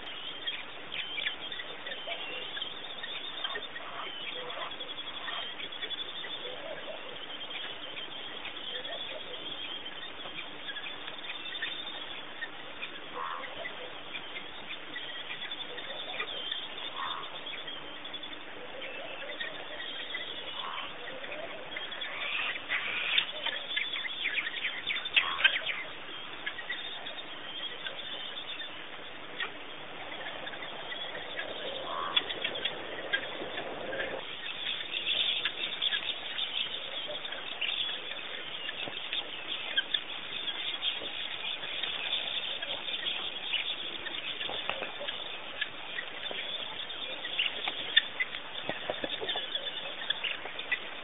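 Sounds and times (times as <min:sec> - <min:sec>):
background hiss: 0:00.0 - 0:51.0
short bird calls: 0:00.0 - 0:51.0.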